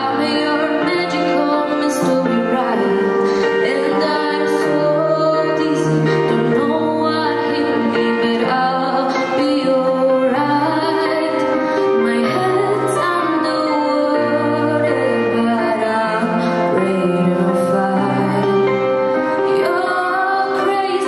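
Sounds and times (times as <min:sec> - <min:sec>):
girl singing a slow ballad: 0:00.0 - 0:21.0
instrumental accompaniment: 0:00.0 - 0:21.0.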